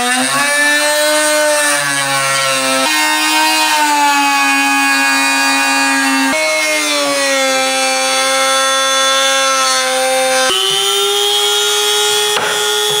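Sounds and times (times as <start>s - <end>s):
rotary tool cutting whine: 0.0s - 13.0s.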